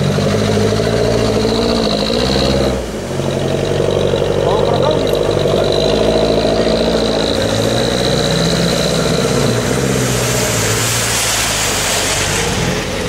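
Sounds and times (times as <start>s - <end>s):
off-road engines revving: 0.0s - 13.0s
wheels splashing water: 0.0s - 13.0s.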